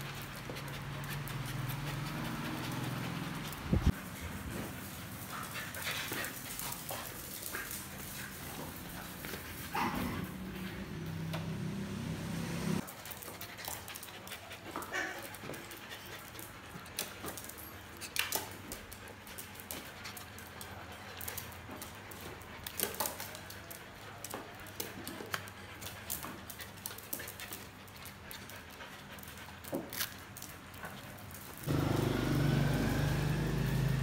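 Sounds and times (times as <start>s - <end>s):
small dogs panting: 0.0s - 11.4s, 12.8s - 31.8s.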